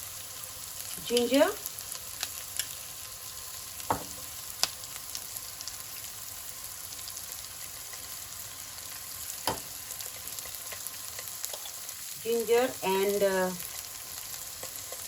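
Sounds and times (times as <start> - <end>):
onion sizzling in oil: 0.0 - 15.0.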